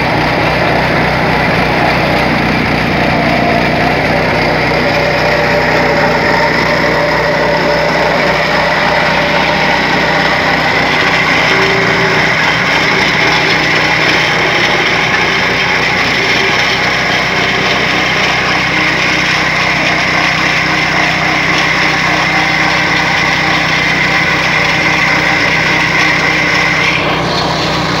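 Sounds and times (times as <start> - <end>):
plate compactor engine running: 0.0 - 28.0.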